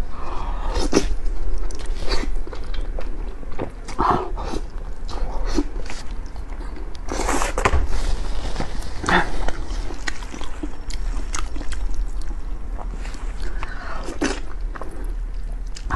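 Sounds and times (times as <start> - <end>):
person chewing food: 0.4 - 7.6, 8.2 - 15.9.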